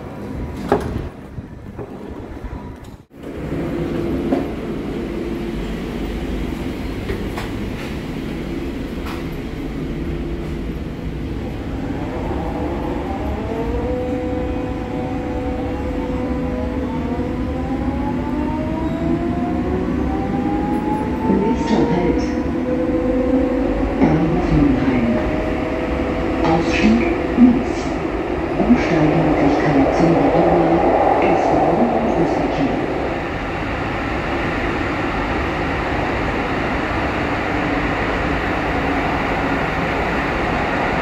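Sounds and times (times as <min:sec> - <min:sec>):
subway car rumble and hum: 0:00.0 - 0:41.0.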